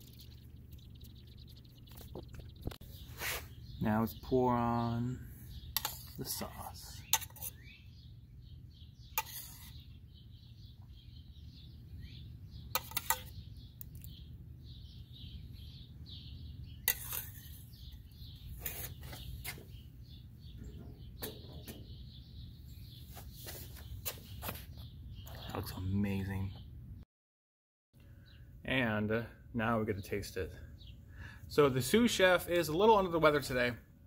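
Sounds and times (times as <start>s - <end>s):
birds chirping: 0.0s - 27.0s, 28.0s - 34.0s.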